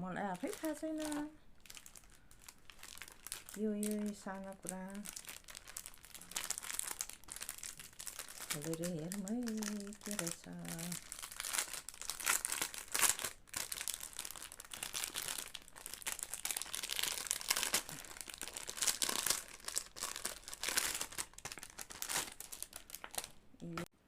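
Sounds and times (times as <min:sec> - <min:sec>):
packet wrapping crinkling and tearing: 0:00.2 - 0:23.8.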